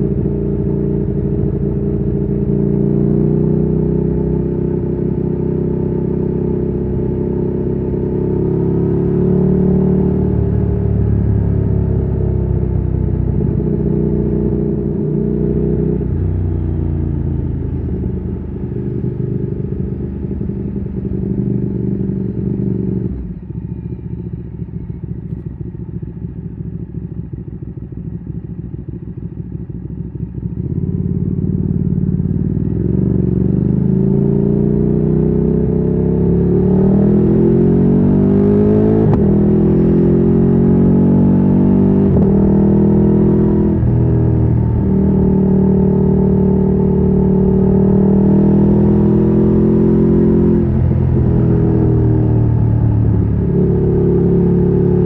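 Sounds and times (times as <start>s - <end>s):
motorcycle engine revving: 0.0s - 28.4s, 29.2s - 55.0s.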